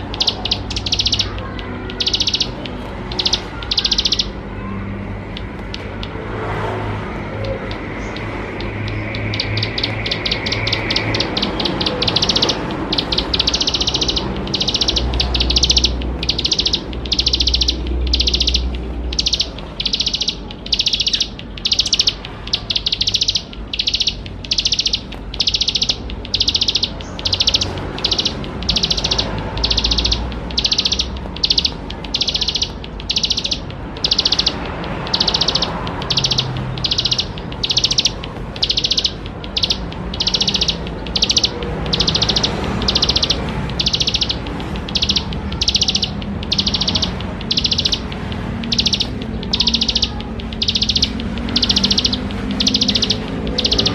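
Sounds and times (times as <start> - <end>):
small bird singing buzzy trills: 0.0 - 6.4, 7.0 - 53.9.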